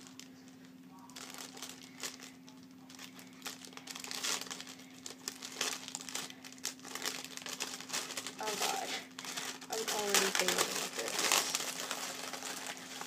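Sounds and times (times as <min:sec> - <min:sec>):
faint steady hum: 0:00.0 - 0:13.0
plastic bag crinkling: 0:00.0 - 0:13.0.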